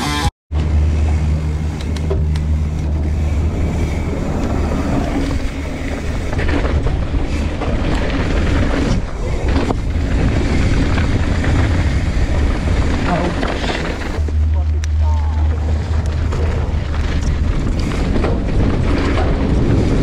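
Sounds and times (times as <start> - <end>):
mountain bike rumble on dirt: 0.5 - 20.0
bike knocks and rattles: 0.6 - 20.0
wind buffeting microphone: 0.6 - 20.0.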